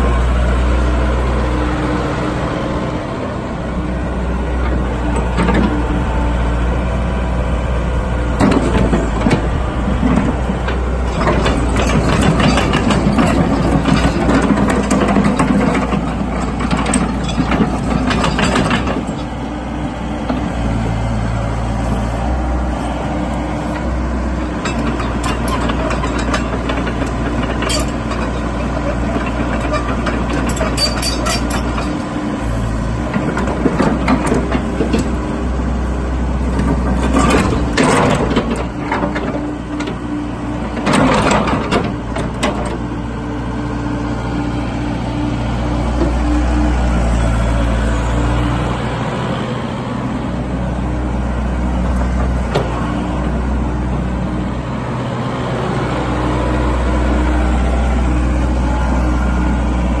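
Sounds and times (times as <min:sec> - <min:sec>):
excavator diesel engine droning: 0:00.0 - 1:00.0.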